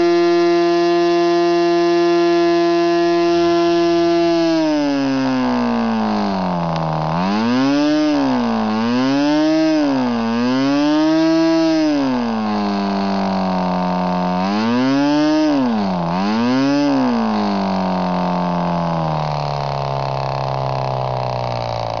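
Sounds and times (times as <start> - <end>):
model airplane engine running: 0.0 - 22.0.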